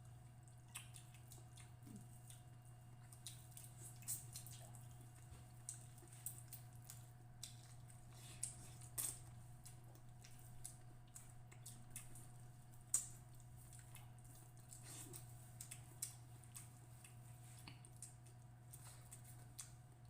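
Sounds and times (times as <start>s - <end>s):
chewing clicks and smacks: 0.0s - 20.0s
steady low hum: 0.0s - 20.0s.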